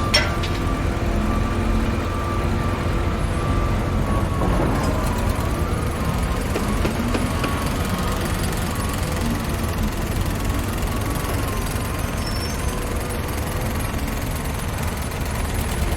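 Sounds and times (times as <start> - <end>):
diesel machinery rumbling: 0.0 - 15.9.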